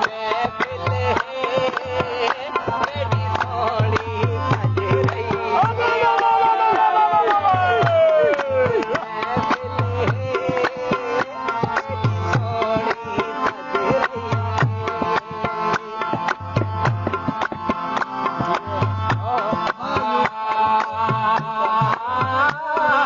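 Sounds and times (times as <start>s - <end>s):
hand drums playing fast rhythm: 0.0s - 23.0s.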